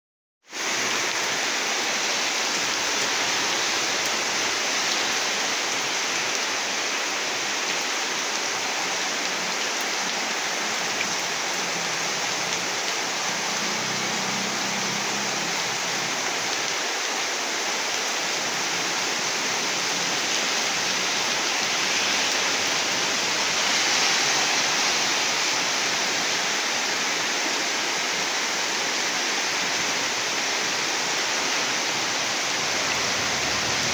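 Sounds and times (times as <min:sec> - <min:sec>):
heavy rain pouring: 0:00.5 - 0:33.9.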